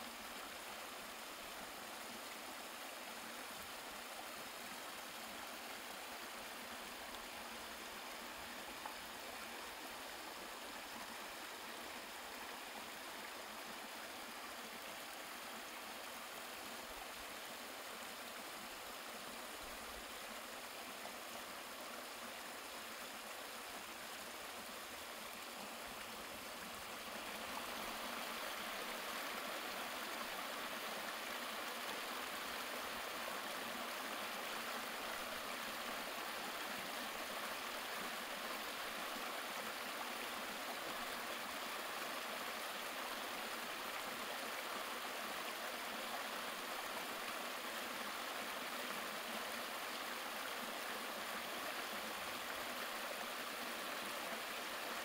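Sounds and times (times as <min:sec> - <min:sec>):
creek running over rocks: 0:00.0 - 0:55.0.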